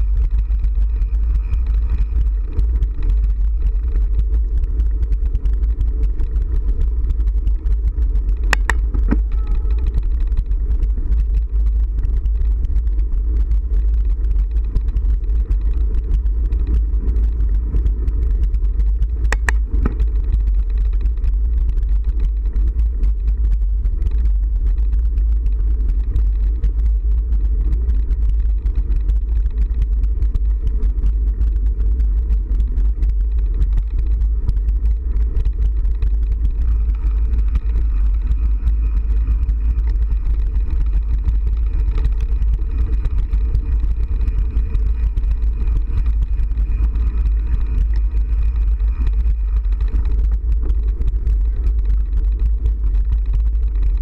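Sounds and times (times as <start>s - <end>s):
faint high whine: 0.0s - 22.4s, 23.1s - 54.0s
vehicle low rumble: 0.0s - 54.0s.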